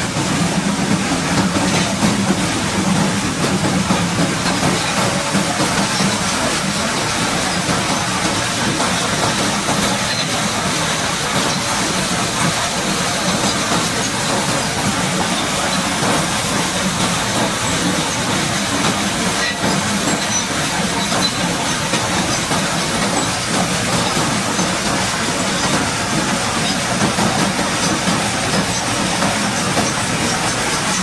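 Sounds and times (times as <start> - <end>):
engine running: 0.0 - 31.0
water jet hissing: 0.0 - 31.0.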